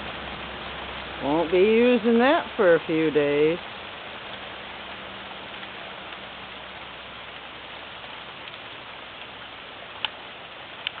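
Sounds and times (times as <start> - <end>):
hail and rain hissing: 0.0 - 11.0
light ticks of hail: 0.0 - 11.0.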